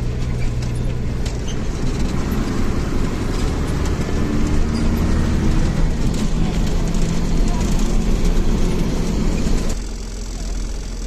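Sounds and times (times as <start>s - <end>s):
bus engine running: 0.0s - 11.0s
light rattles: 0.0s - 11.0s.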